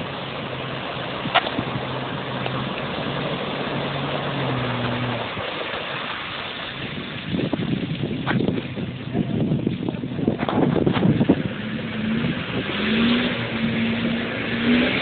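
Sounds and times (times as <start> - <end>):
wind buffeting microphone: 0.0 - 5.7, 6.5 - 15.0
off-road vehicle engine running: 0.0 - 15.0
water washing: 0.0 - 15.0.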